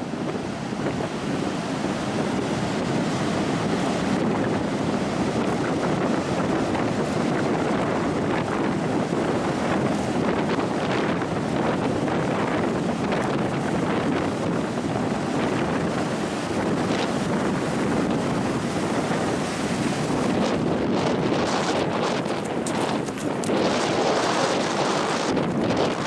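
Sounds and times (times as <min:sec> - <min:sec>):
ocean surf breaking: 0:00.0 - 0:26.0
strong wind on microphone: 0:00.0 - 0:26.0.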